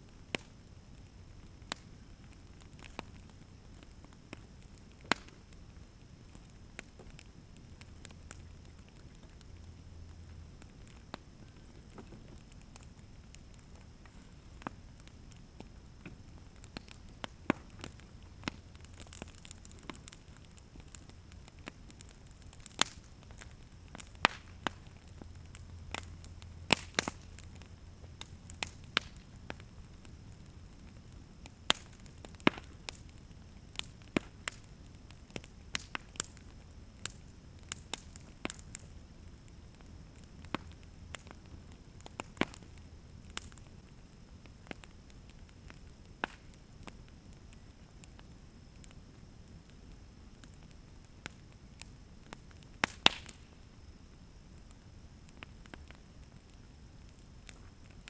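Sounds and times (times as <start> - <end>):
sharp pops of fire: 0.0 - 58.0
wood fire crackling: 0.0 - 58.0.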